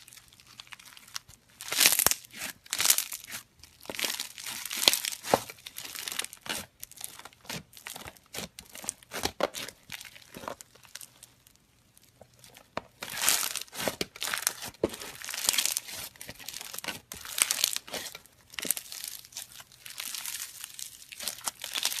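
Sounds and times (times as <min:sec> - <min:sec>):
slime crackling and squishing: 0:00.0 - 0:22.0.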